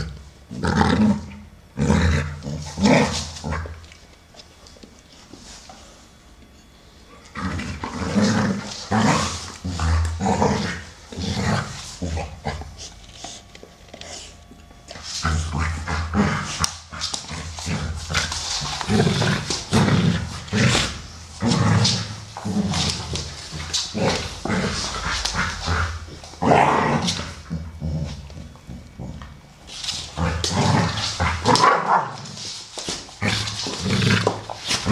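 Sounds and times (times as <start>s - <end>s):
dogs growling: 0.0s - 4.0s, 7.1s - 34.9s.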